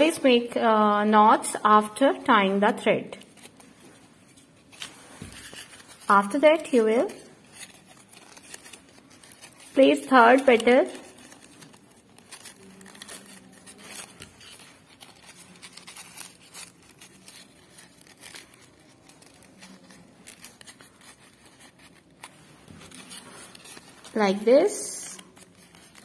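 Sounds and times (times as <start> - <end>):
paper rustling and crinkling: 1.9 - 26.0.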